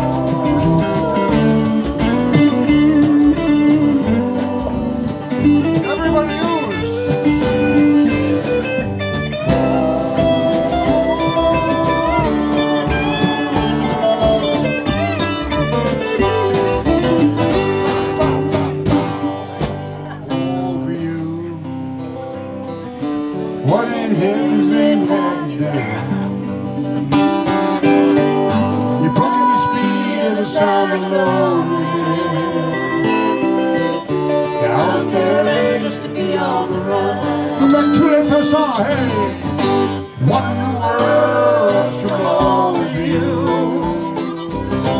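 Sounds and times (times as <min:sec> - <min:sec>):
bass guitar: 0:00.0 - 0:44.9
electric guitar lead with bent notes: 0:00.0 - 0:44.9
strummed acoustic guitar: 0:00.0 - 0:44.9.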